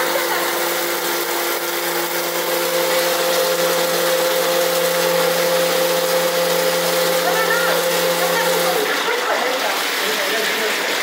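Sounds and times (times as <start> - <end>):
churning water rushing: 0.0 - 11.0
pump motor humming: 0.0 - 11.0.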